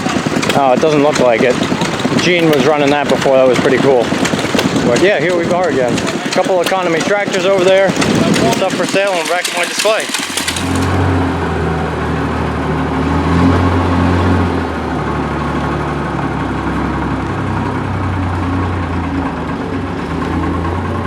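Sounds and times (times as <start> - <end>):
vehicle engine running at low speed: 0.0 - 21.0.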